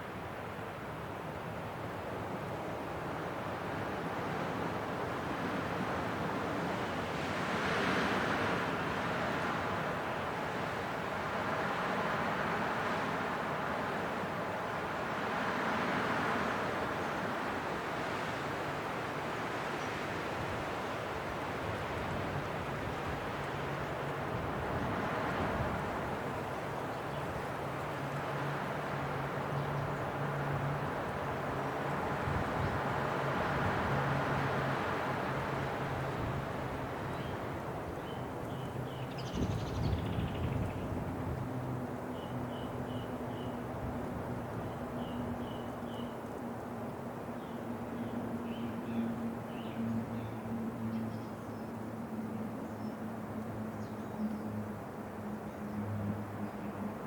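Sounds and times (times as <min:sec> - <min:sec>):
wind blowing steadily: 0:00.0 - 0:57.0.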